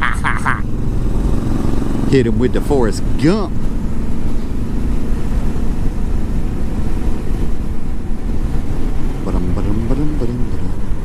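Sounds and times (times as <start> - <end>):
motorcycle engine running: 0.0 - 11.0
wind rushing over microphone: 0.7 - 11.0.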